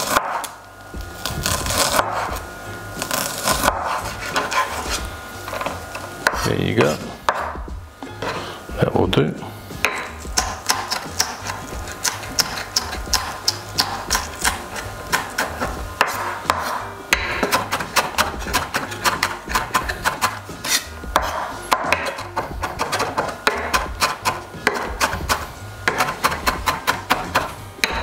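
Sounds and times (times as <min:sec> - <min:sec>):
knife chopping on a board: 0:00.0 - 0:00.5, 0:01.2 - 0:02.4, 0:03.1 - 0:08.4, 0:09.8 - 0:28.0
quiet background music: 0:00.0 - 0:28.0.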